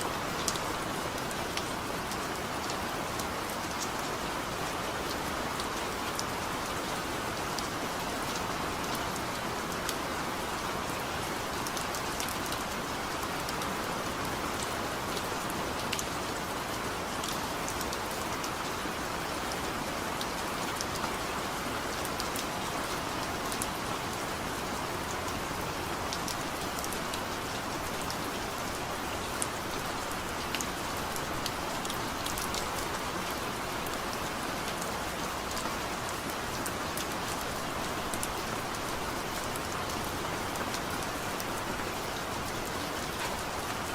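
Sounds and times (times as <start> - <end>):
steady rain falling: 0.0 - 43.9
raindrops ticking on a surface: 0.1 - 43.9.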